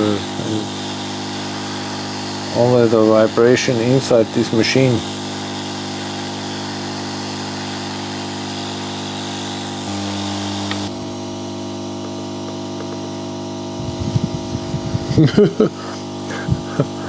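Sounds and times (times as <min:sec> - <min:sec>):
hot air blower fan hum: 0:00.0 - 0:17.0.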